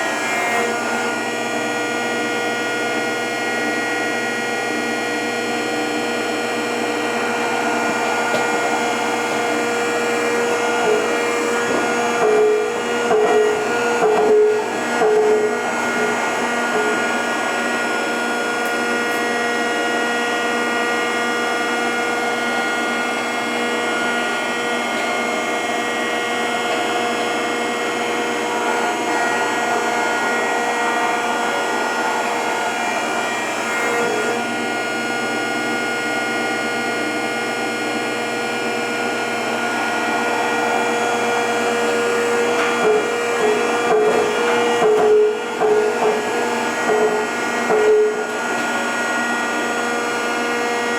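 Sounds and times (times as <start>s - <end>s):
planer hydraulic whine: 0.0s - 50.9s.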